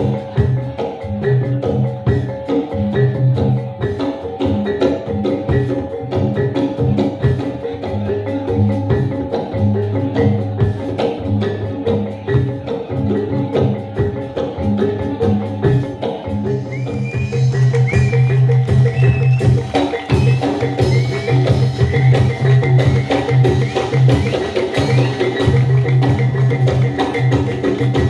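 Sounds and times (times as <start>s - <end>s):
tuned mallet percussion: 0.0s - 28.0s.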